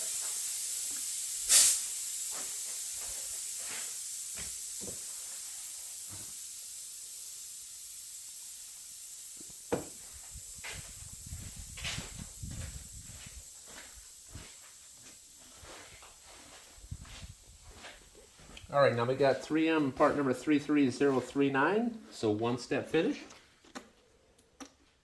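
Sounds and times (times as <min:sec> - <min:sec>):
high hiss: 0:00.0 - 0:22.0.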